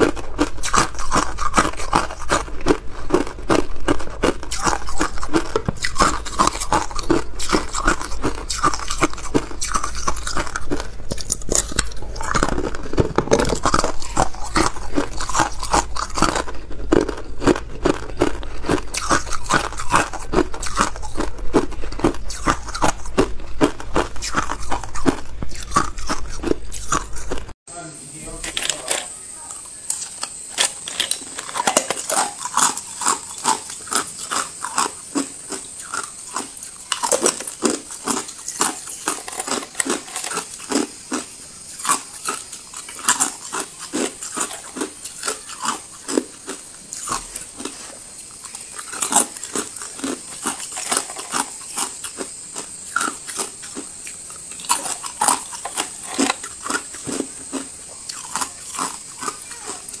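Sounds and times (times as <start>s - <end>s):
ice cubes crunched between teeth: 0.0s - 27.5s, 28.3s - 60.0s.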